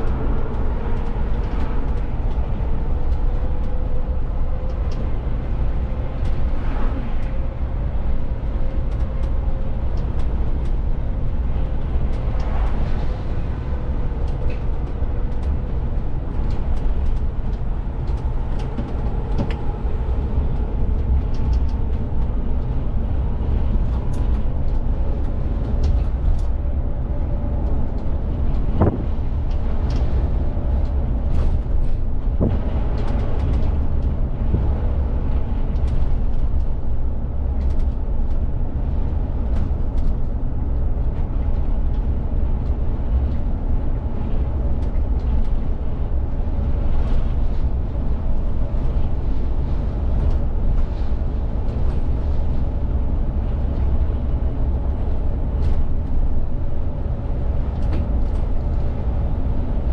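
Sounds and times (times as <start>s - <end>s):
bus drivetrain and road rumble: 0.0s - 59.9s.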